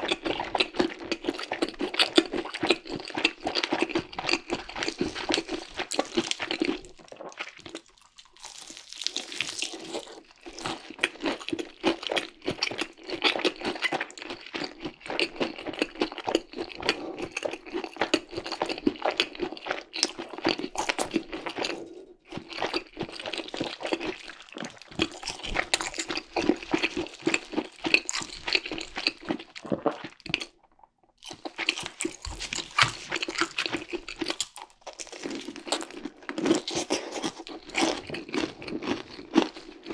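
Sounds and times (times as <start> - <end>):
crunching and chewing fried chicken: 0.0 - 39.9.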